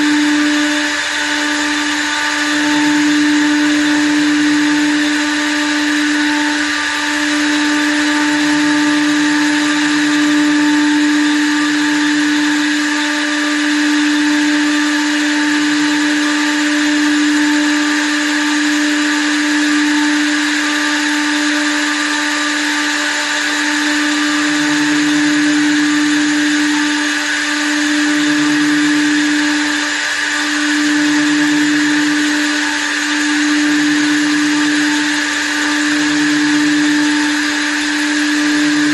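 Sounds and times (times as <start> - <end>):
low machine hum: 0.0 - 22.2, 23.7 - 38.9
wood lathe whining: 0.0 - 38.9.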